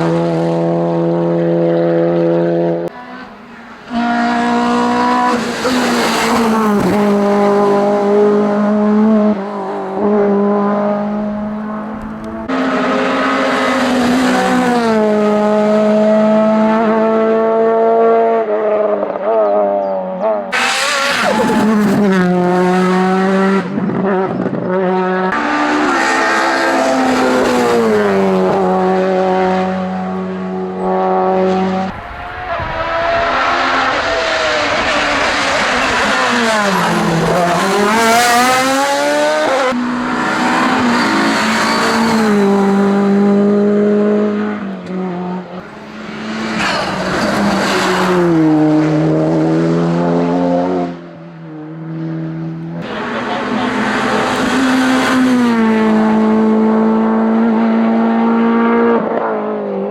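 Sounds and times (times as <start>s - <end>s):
race car engines at full throttle: 0.0s - 59.9s.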